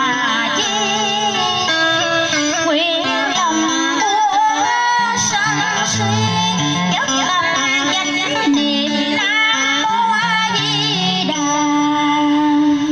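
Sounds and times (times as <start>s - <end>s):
person singing with heavy vibrato: 0.0s - 12.9s.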